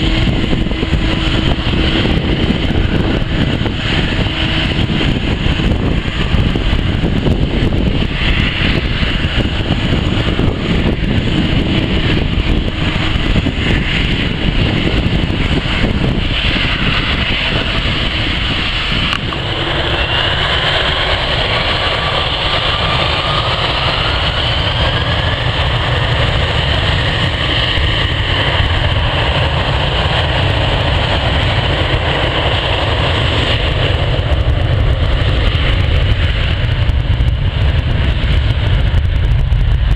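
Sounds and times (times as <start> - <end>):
jet engines rumbling: 0.0 - 39.9
thin engine whine rising: 0.0 - 39.9.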